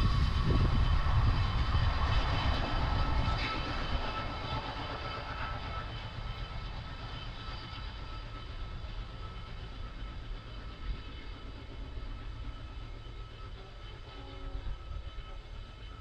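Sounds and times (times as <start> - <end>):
diesel train rumbling: 0.0 - 16.0
thin steady whine: 0.0 - 16.0.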